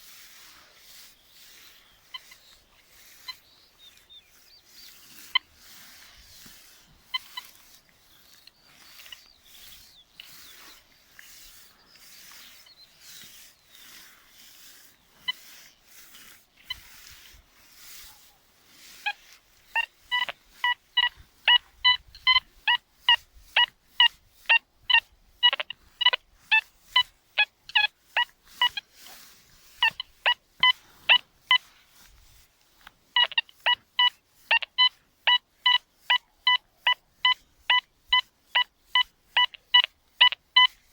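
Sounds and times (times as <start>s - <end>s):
metal detector coil swishing: 0.0s - 35.0s
metal detector beeps: 1.2s - 14.1s, 14.7s - 15.8s, 19.0s - 31.8s, 33.1s - 40.9s.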